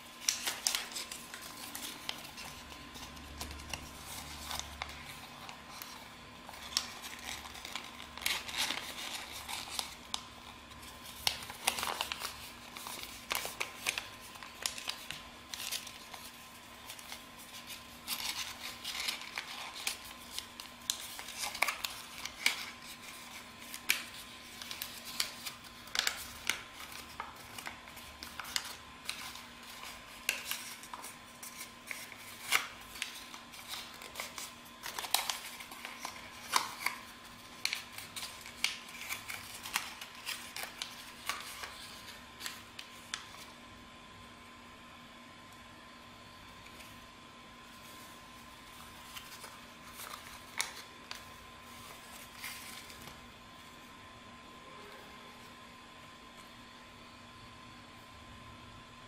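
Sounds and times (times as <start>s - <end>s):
paper rustling and crackling: 0.0s - 43.6s, 47.7s - 53.2s.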